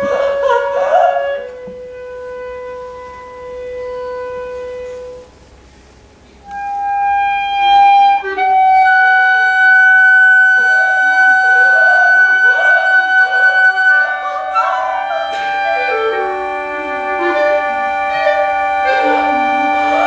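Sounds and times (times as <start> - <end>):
chamber ensemble long held notes: 0.0 - 20.0.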